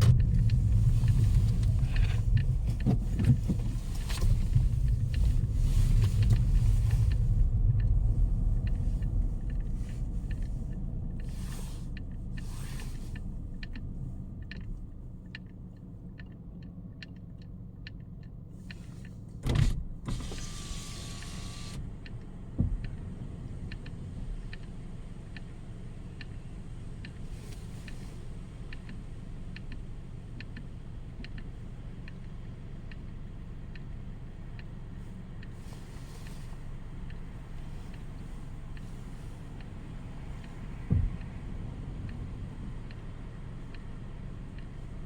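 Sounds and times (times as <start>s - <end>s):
rain ticks: 0.0s - 19.2s, 20.1s - 45.0s.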